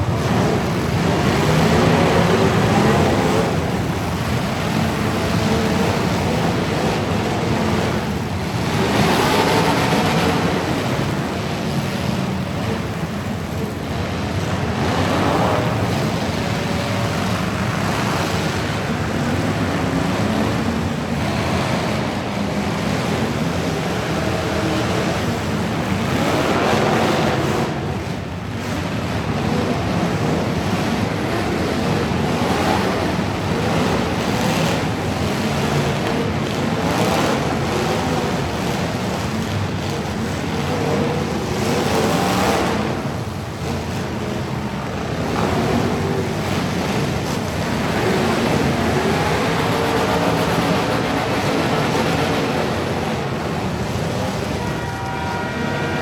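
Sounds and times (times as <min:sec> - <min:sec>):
truck engines running: 0:00.0 - 0:56.0.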